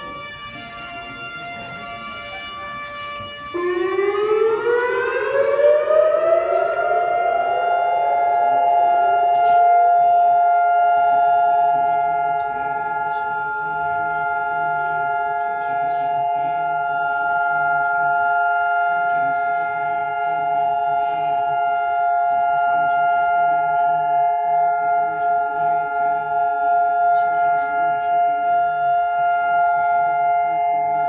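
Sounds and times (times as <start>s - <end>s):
emergency alert alarm tone: 0.0s - 31.0s.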